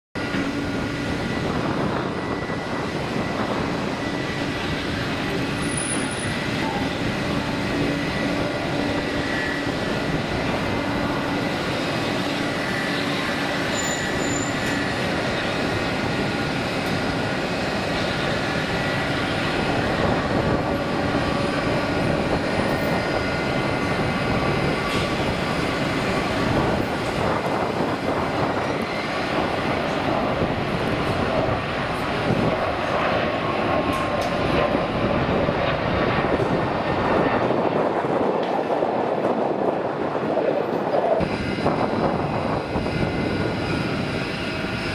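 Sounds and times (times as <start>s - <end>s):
jet engines at takeoff thrust: 0.2s - 44.9s.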